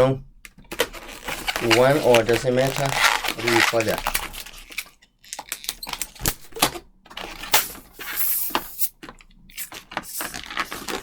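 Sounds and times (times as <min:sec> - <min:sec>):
balloon twisting clicks and rubbing: 0:00.7 - 0:11.0.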